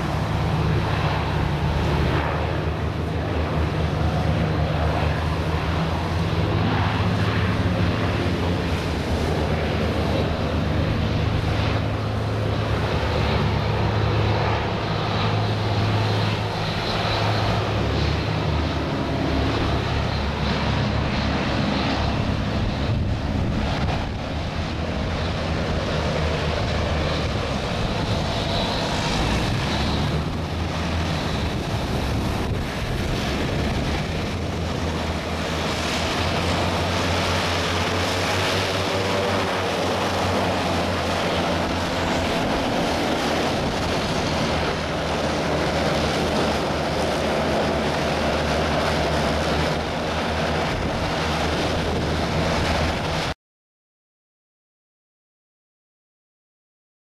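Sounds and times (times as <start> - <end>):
wind buffeting microphone: 0.0 - 53.3
hovercraft engines droning: 0.0 - 53.4.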